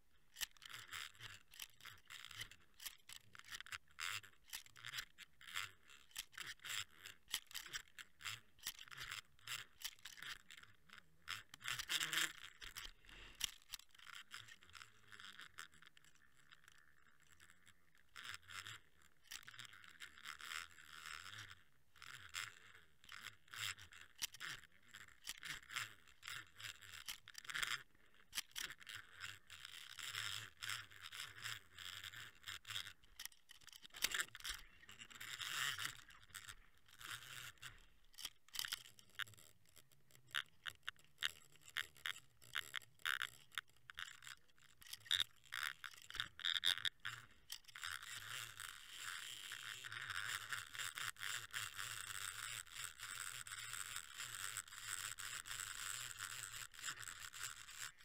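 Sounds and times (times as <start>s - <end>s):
fishing line clicking and scraping: 0.0s - 58.0s.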